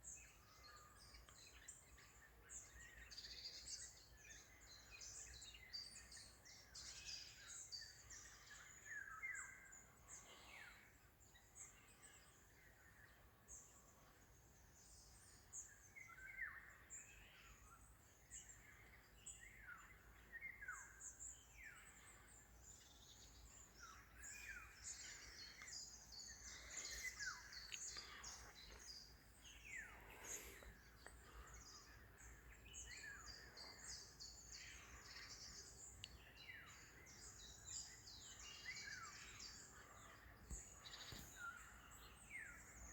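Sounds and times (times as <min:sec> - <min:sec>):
songbirds singing and chirping: 0:00.0 - 0:42.9.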